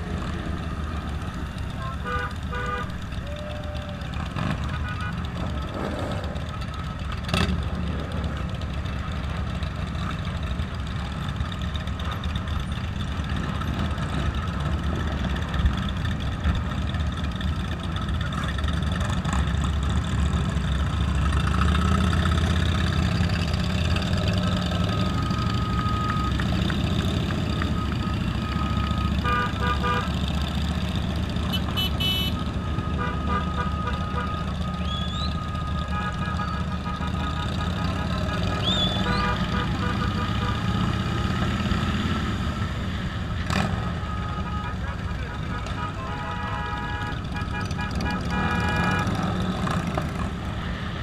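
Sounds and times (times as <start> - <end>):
motorcycle engines running: 0.0 - 51.0.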